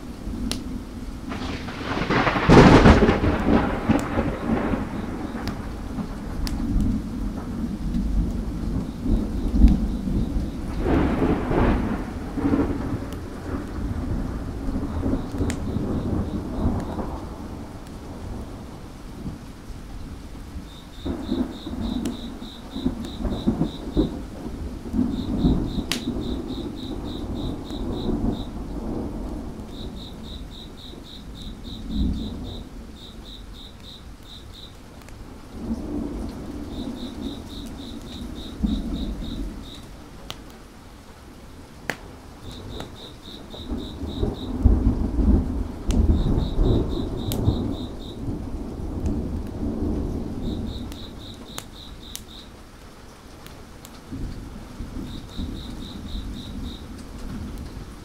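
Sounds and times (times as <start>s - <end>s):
thunder rolling: 0.0s - 19.5s, 20.5s - 39.9s, 42.3s - 52.4s, 54.1s - 58.0s
steady rain: 0.0s - 58.0s
wood fire crackling pops: 0.4s - 0.7s, 1.3s - 18.9s, 20.6s - 40.6s, 41.8s - 57.8s
insect chirping: 1.3s - 7.2s, 7.9s - 19.0s, 20.6s - 40.6s, 42.4s - 53.4s, 54.0s - 58.0s.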